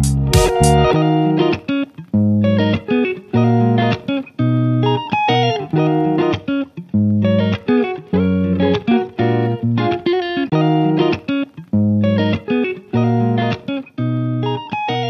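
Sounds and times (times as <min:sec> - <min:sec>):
guitar-led tune with bass: 0:00.0 - 0:15.0.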